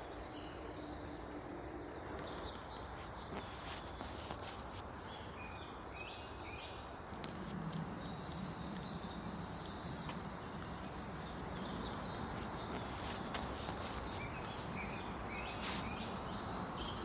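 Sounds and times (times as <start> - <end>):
outdoor background hiss: 0.0 - 17.0
songbirds chirping: 0.0 - 17.0.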